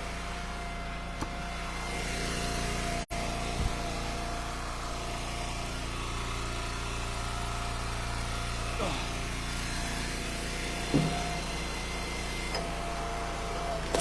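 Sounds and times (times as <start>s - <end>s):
wood splitter engine running: 0.0s - 14.0s.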